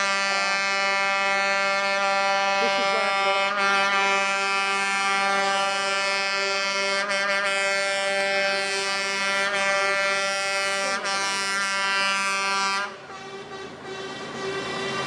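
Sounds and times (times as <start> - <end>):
lorry air horn blast: 0.0 - 15.0
traffic noise: 0.0 - 15.0.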